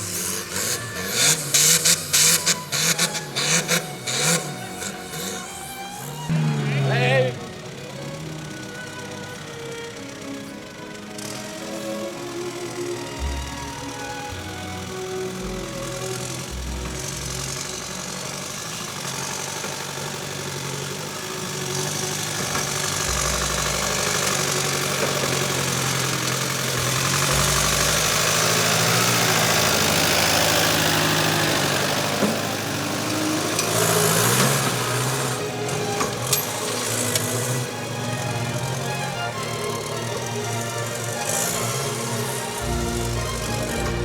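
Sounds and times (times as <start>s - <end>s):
off-road engine revving: 0.0s - 44.0s.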